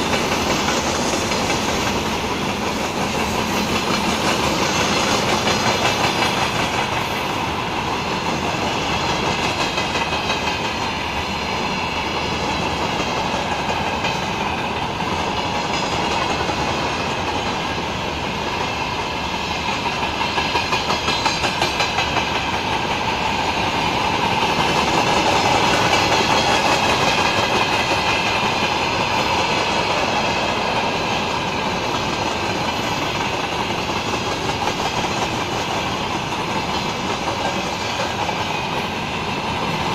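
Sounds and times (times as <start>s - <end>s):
freight train rolling past: 0.0s - 39.9s
wheels clicking over rail joints: 0.0s - 39.9s.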